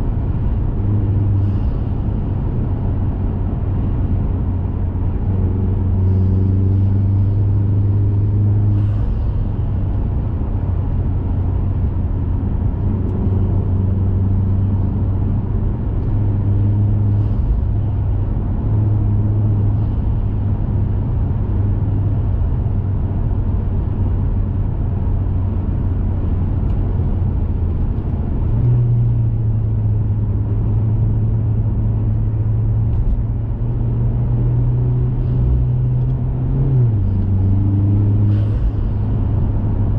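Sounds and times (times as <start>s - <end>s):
car engine drone: 0.0s - 39.9s
tyre and road noise: 0.0s - 39.9s.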